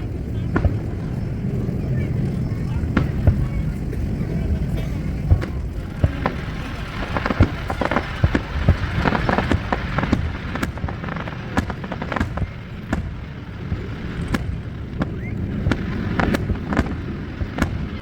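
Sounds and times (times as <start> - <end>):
fireworks bangs and crackling: 0.0 - 18.0
low rumble: 0.0 - 18.0.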